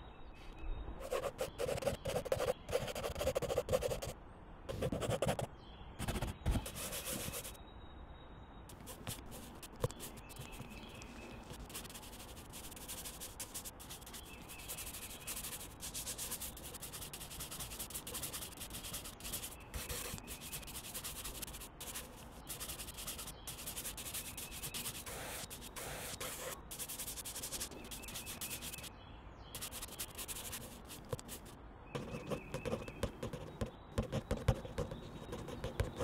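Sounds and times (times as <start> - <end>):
art tools scratching on paper: 1.0 - 4.1, 4.7 - 7.6, 8.7 - 28.9, 29.6 - 36.0.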